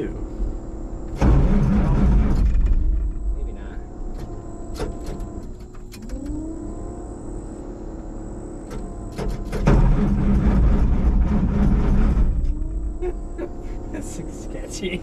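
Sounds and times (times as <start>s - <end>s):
starter cranking diesel engine: 0.0s - 7.1s, 8.6s - 15.0s.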